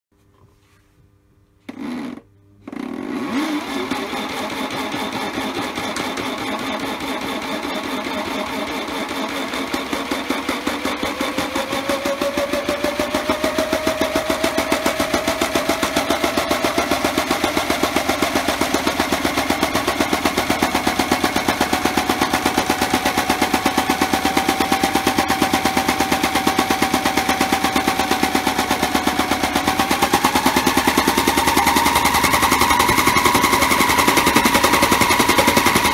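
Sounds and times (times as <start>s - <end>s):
small motor whine: 1.6s - 35.9s.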